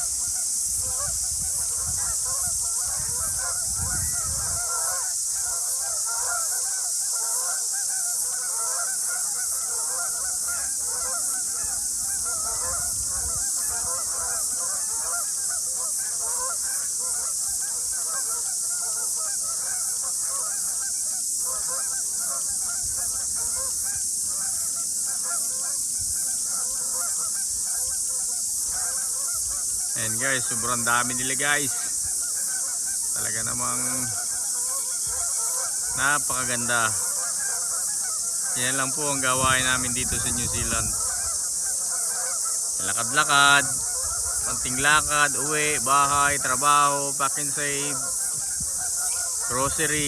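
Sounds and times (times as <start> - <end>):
geese honking: 0.0 - 50.0
steady high hiss: 0.0 - 50.0.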